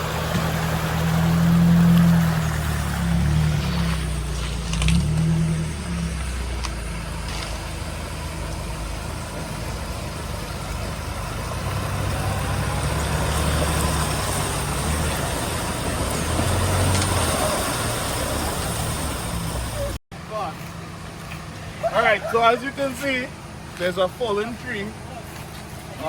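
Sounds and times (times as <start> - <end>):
vehicle engine low drone: 0.0 - 26.0.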